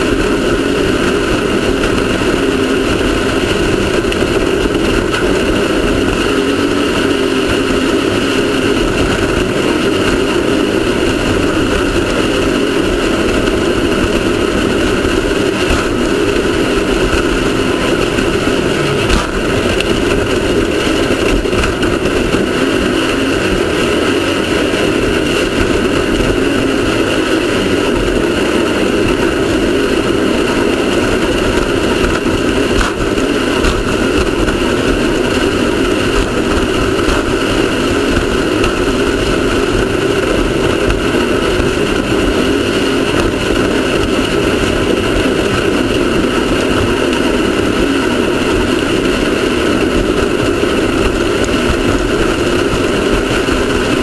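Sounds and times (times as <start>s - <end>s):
race car engine running loudly: 0.0s - 54.0s.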